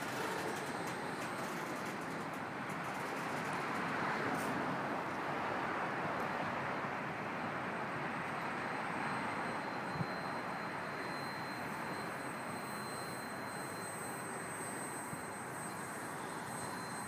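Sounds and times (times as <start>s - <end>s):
freight train rolling over bridge: 0.0s - 6.0s, 8.6s - 17.0s.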